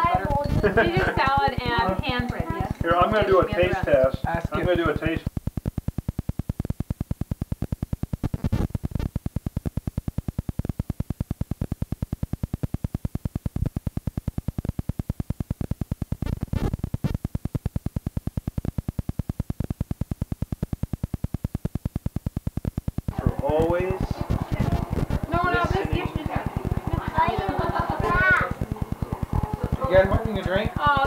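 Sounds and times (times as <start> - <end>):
pulsing electrical buzz: 0.0 - 31.0.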